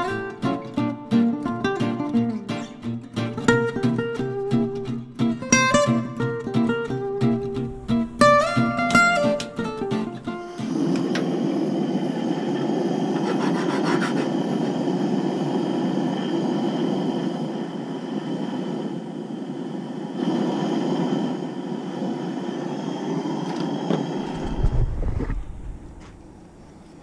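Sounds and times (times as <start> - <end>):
camp stove burner rushing: 4.2 - 27.0.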